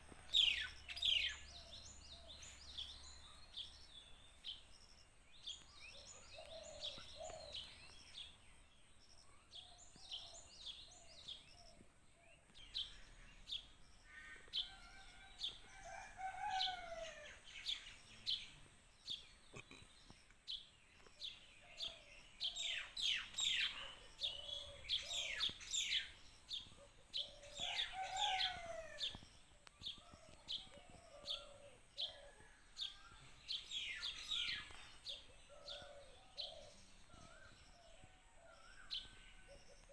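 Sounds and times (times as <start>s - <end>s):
small birds chirping: 0.1s - 15.9s, 16.6s - 39.9s.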